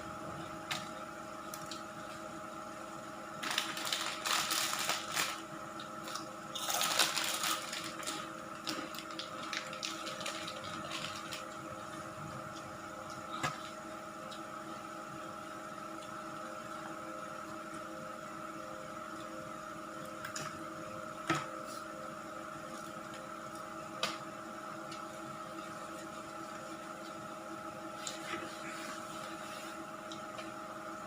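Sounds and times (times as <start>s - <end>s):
steady electric hum: 0.0s - 31.0s.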